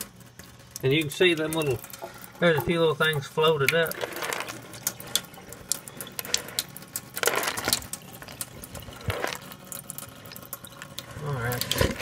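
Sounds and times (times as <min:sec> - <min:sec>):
water sloshing: 0:01.4 - 0:12.0.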